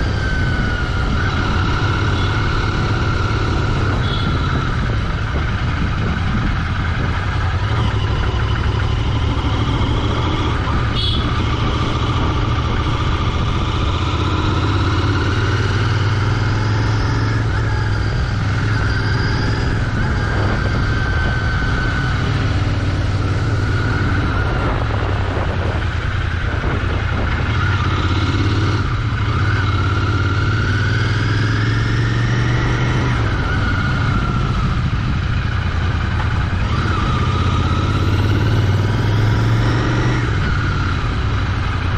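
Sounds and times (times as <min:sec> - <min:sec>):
motorcycle engine rumble: 0:00.0 - 0:41.9.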